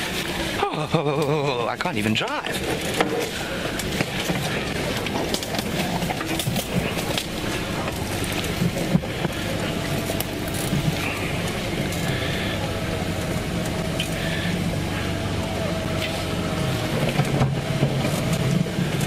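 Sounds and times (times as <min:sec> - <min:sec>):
vehicle engine at low revs: 0:00.0 - 0:19.0.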